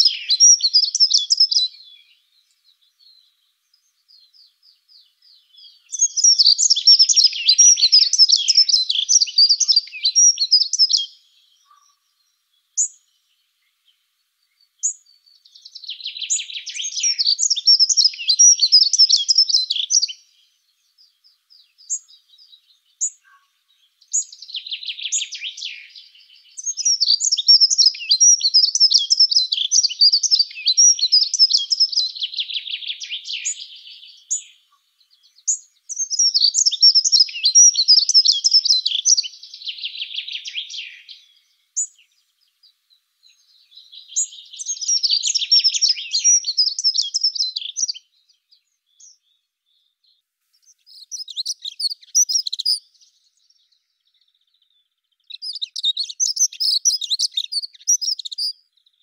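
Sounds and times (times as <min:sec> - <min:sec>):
bird warbling song: 0:00.0 - 0:59.0.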